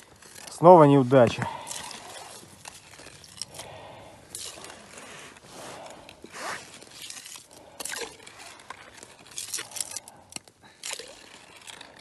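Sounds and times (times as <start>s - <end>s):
scraping and crunching of snow and ice: 0.0s - 12.0s.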